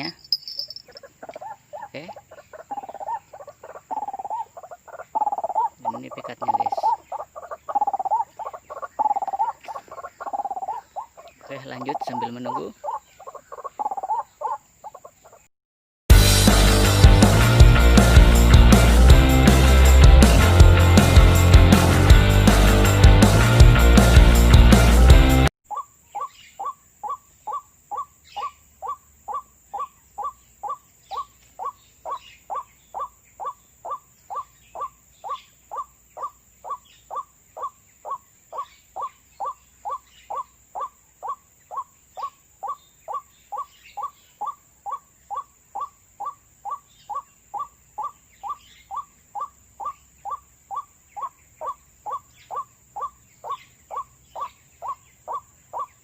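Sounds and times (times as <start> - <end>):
waterhen calling: 0.0 - 15.5, 25.7 - 56.0.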